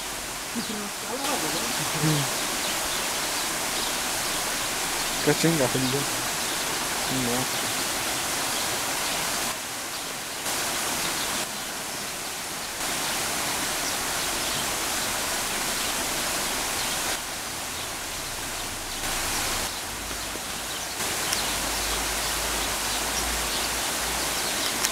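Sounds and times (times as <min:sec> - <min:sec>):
water rushing over stones: 0:00.0 - 0:24.9.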